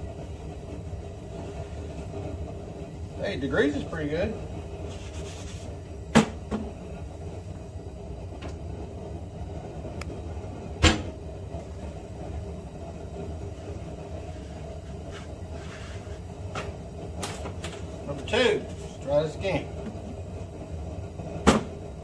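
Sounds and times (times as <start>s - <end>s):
blower motor humming: 0.0s - 22.0s.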